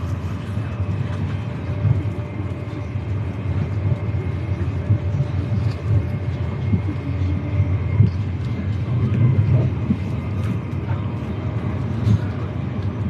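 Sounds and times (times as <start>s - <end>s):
faint steady whine: 0.0s - 13.0s
train rumble inside carriage: 0.0s - 13.0s.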